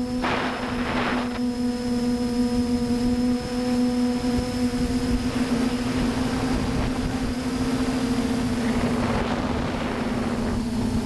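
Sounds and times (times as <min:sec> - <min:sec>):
drone motors humming: 0:00.0 - 0:11.0.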